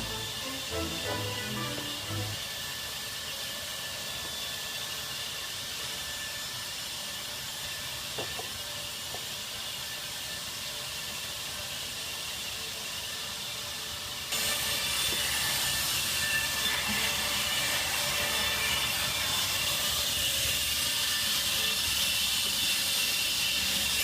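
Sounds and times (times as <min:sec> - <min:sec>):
band saw hissing and whining: 0:00.0 - 0:24.0.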